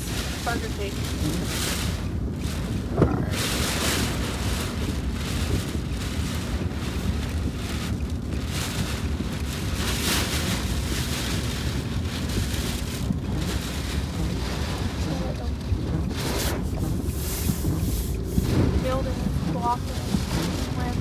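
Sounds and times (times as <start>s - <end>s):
rain on a car: 0.0s - 21.0s
storm wind buffeting a car: 0.0s - 21.0s.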